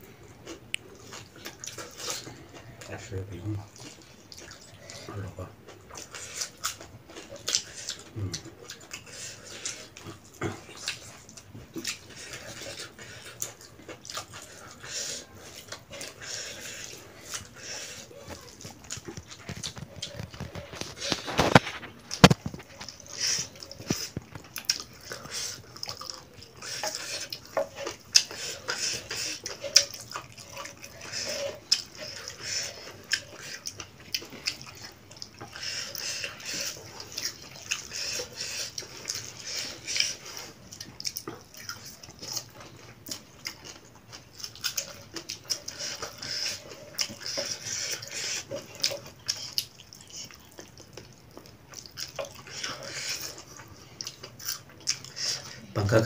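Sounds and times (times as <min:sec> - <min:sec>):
wet chewing and mouth smacking: 0:00.0 - 0:56.0.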